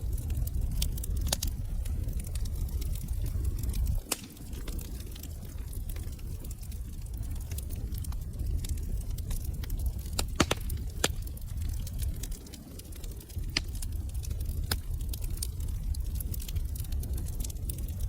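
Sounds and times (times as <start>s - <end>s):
low rumble of burning: 0.0s - 18.0s
wood fire crackling: 0.0s - 18.0s.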